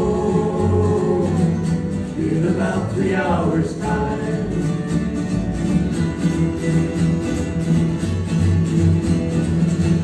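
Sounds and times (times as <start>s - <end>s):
low bass notes: 0.0s - 10.0s
strummed acoustic guitars: 0.0s - 10.0s.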